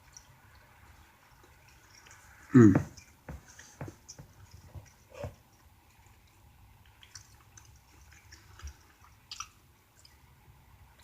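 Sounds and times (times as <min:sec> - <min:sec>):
chewing and mouth sounds: 0:00.0 - 0:10.3.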